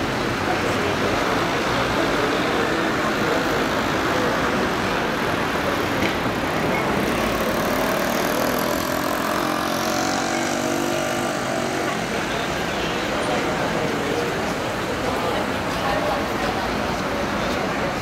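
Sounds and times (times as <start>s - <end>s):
cars driving: 0.0s - 18.0s
steady traffic hum: 0.0s - 18.0s.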